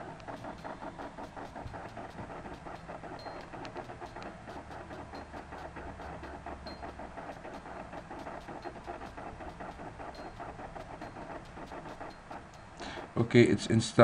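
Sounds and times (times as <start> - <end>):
dvd drive whirring and clicking: 0.0 - 13.2.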